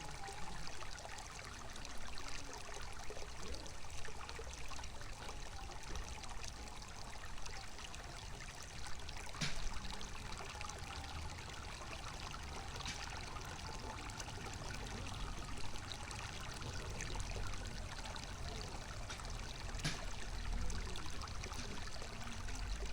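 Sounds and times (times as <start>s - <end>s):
water pouring and splashing: 0.0s - 22.9s.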